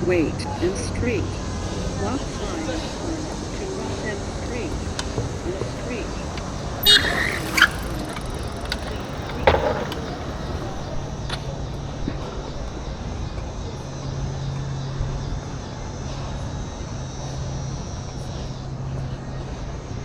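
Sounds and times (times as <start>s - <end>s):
city street traffic: 0.0s - 18.8s.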